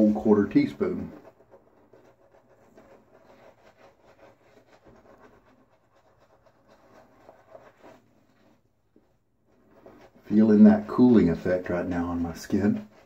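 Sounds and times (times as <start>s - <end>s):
shaving brush rubbing on beard: 0.0s - 8.6s, 9.5s - 13.0s.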